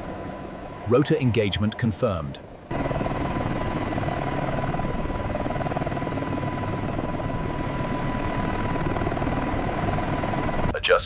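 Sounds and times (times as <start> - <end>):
helicopter rotor beat: 0.0 - 11.0
high engine whine: 0.0 - 11.0.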